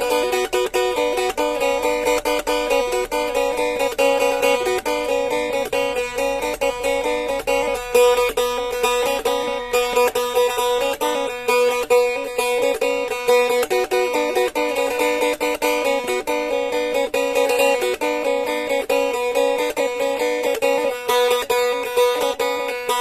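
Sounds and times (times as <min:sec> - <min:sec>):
plucked lute with drone: 0:00.0 - 0:23.0.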